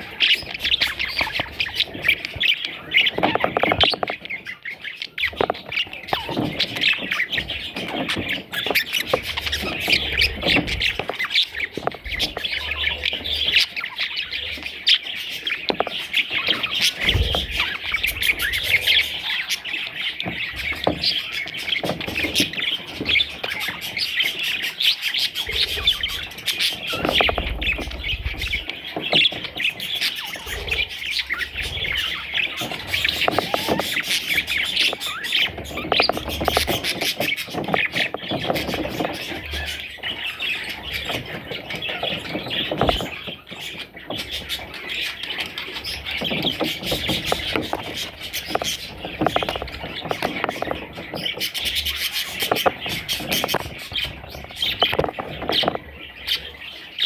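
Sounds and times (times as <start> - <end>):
baby budgerigars chirping: 0.0 - 57.0.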